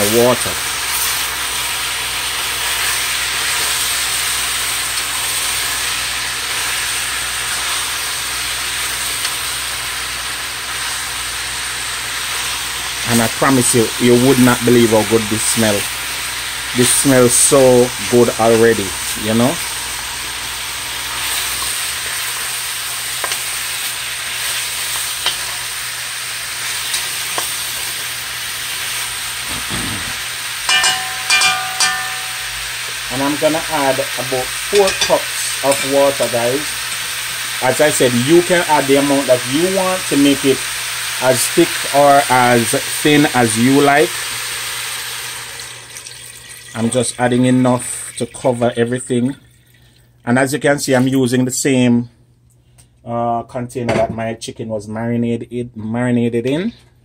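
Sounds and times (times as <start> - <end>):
meat and vegetables sizzling in pot: 0.0 - 48.8.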